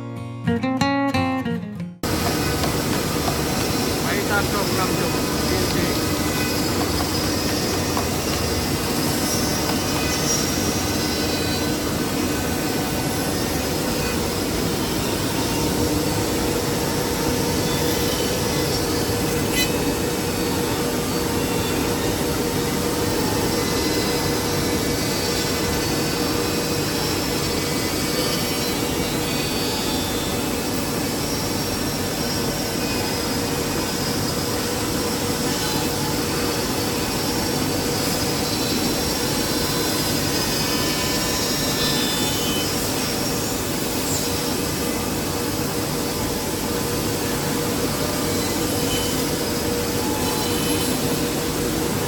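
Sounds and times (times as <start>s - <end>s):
router spindle whine: 2.0s - 52.0s.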